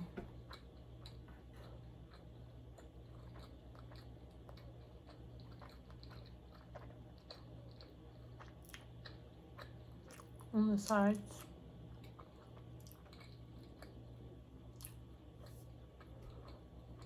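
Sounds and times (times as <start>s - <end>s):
steady low hum: 0.0s - 17.0s
chewing close to microphone: 0.4s - 10.5s, 11.4s - 17.0s.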